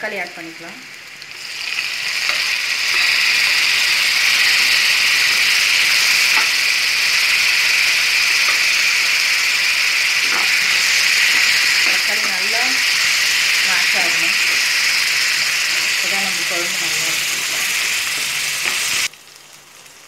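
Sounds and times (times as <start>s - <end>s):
tomatoes sizzling in hot oil: 0.0s - 20.0s.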